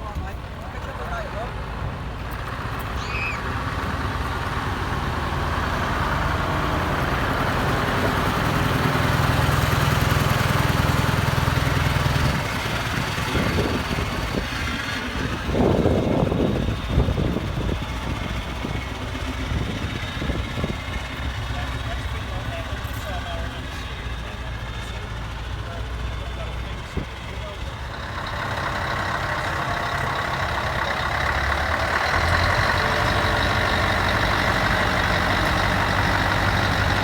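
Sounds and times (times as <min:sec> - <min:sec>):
heavy truck engine running: 0:00.0 - 0:37.0.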